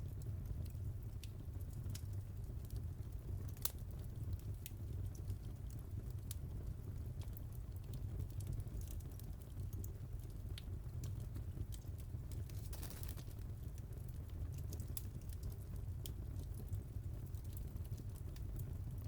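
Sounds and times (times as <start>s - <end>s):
fire low rumble: 0.0s - 19.0s
wood fire crackling and popping: 0.0s - 19.0s.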